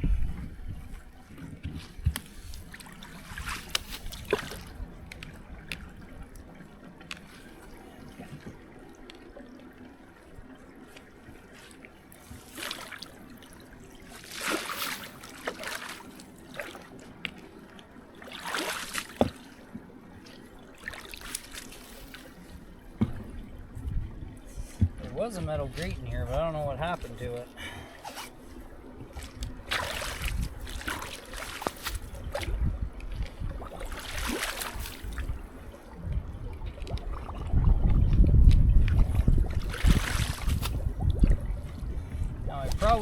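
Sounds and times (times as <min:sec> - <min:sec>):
water splashing and rushing: 0:00.8 - 0:43.0.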